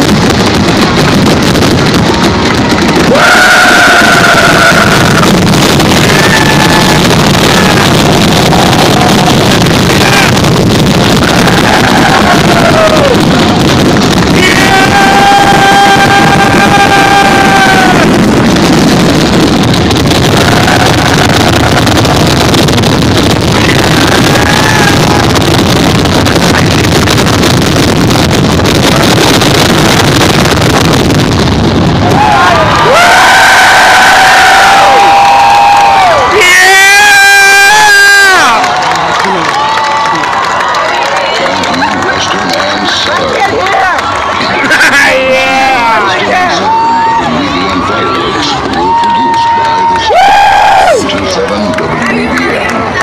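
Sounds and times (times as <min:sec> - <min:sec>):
fireworks booms and crackles: 0:00.0 - 0:53.0
loud rushing background noise: 0:00.0 - 0:53.0.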